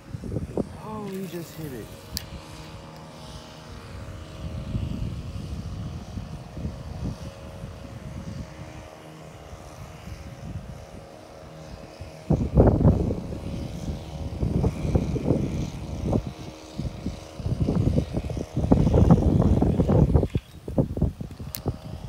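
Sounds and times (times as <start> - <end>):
distant engine hum: 0.0 - 22.0
wind rumble on microphone: 0.0 - 22.0.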